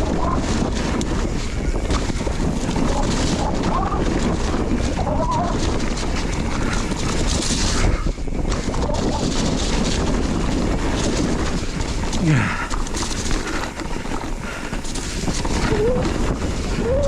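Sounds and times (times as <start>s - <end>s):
bike tyre noise: 0.0s - 17.0s
wind rumbling on microphone: 0.0s - 17.0s
bike rattling clicks: 0.3s - 5.0s, 5.6s - 17.0s.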